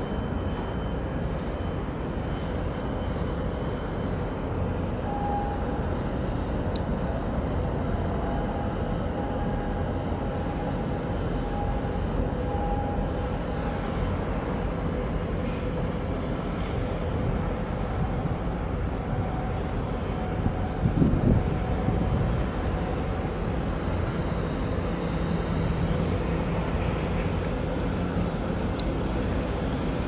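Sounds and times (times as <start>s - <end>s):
harbour ambience: 0.0s - 30.0s
ship engines rumbling: 0.0s - 30.0s.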